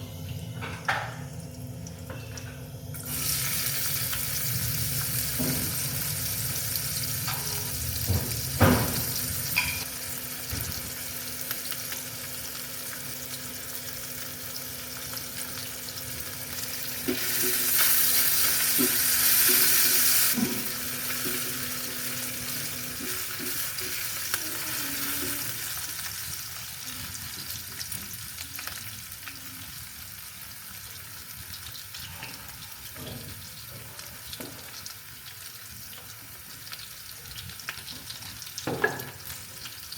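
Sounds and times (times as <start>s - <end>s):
food sizzling in a pan: 0.2s - 39.9s.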